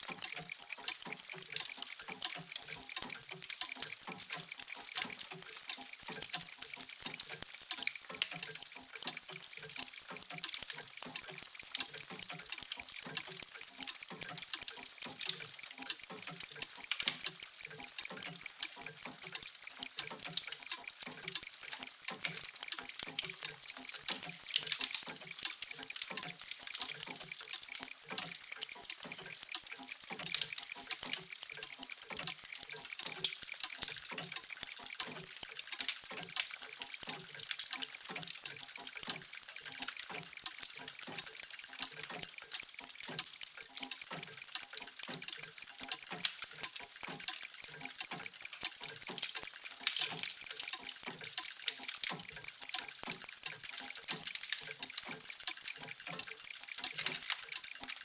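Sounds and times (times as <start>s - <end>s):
many mechanical clocks ticking: 0.0s - 58.0s.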